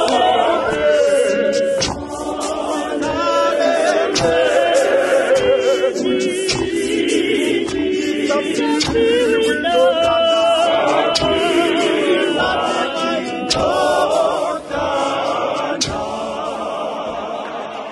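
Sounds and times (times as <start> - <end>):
choir singing a cappella: 0.0 - 17.9
sharp beats: 0.0 - 17.9.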